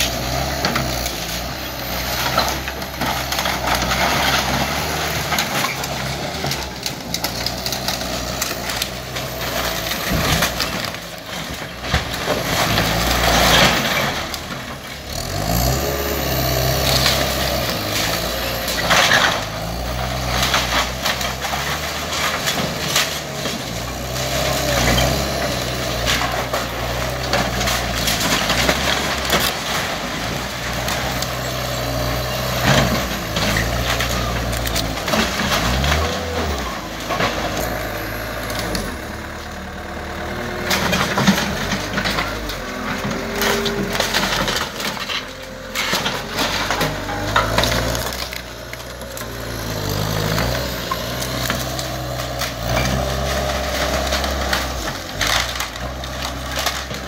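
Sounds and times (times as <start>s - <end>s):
skid steer engine under load: 0.0s - 57.0s
wood framing cracking and crashing: 0.0s - 57.0s.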